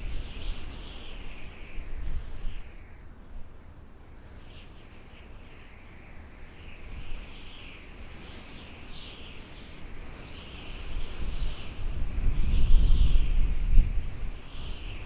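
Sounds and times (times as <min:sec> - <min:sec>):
low wind rumble: 0:00.0 - 0:15.0
wind howling with high whistle: 0:00.0 - 0:15.0.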